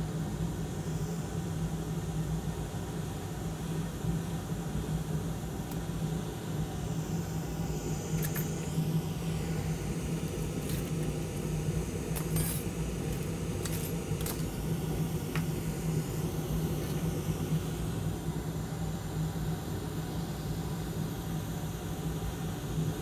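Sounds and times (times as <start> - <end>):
hot air station blowing: 0.0 - 23.0.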